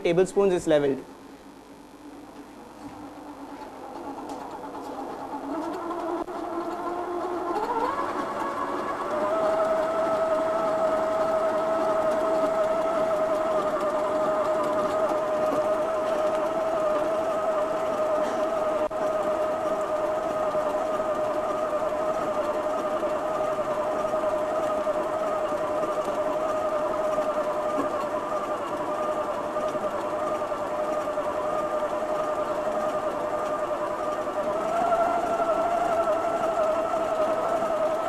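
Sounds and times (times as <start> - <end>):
small motor whine: 1.1 - 38.0.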